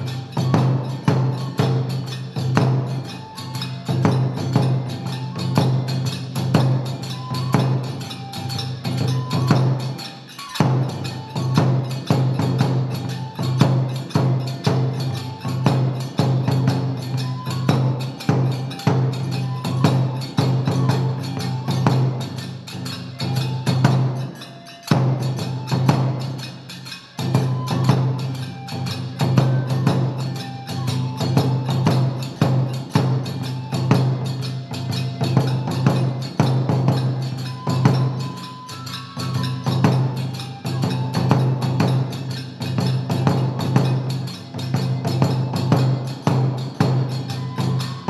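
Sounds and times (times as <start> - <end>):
drum and percussion strikes: 0.0 - 48.0
ringing metallic tones: 0.0 - 48.0.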